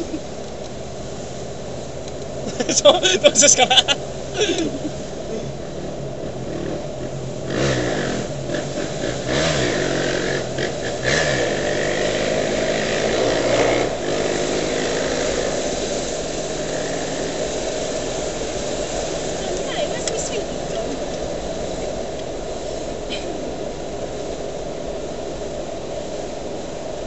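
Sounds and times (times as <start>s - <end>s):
car engine revving: 0.0s - 25.1s.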